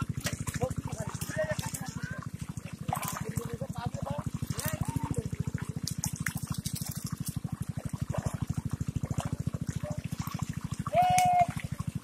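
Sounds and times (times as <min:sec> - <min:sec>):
water gushing: 0:00.0 - 0:12.0.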